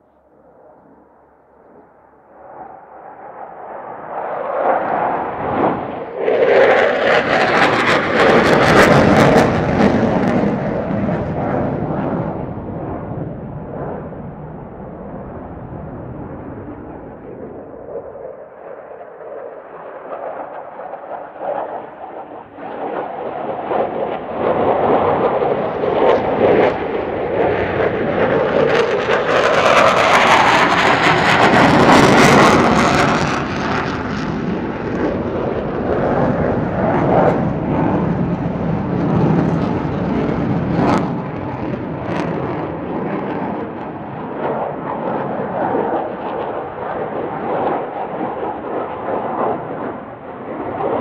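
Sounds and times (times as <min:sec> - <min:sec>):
jet engines roaring: 0:00.0 - 0:51.0.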